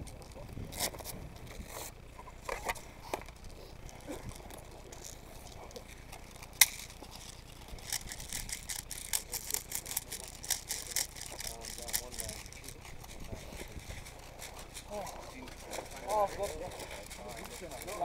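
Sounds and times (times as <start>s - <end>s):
gear clicking and rustling: 0.0s - 18.0s.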